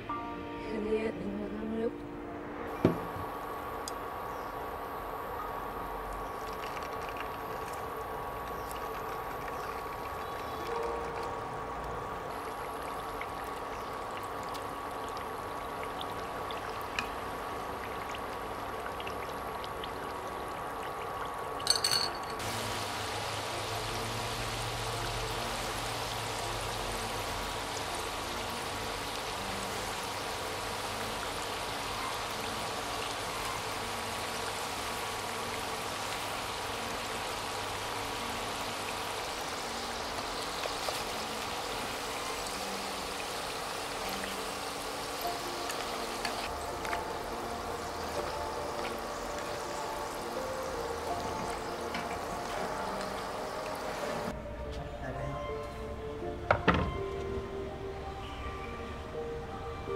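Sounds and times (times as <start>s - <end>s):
fries sizzling in hot oil: 2.7s - 54.3s.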